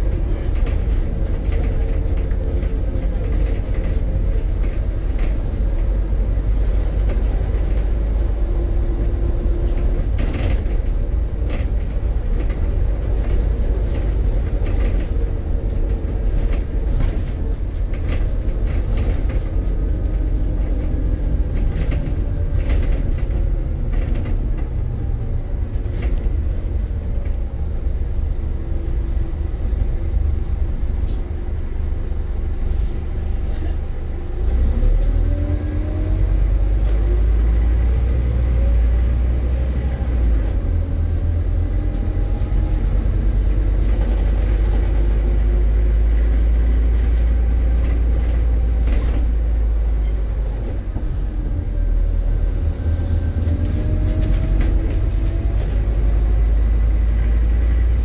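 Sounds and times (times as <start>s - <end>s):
bus body rattles and creaks: 0.0s - 58.0s
bus diesel engine drone: 0.0s - 58.0s.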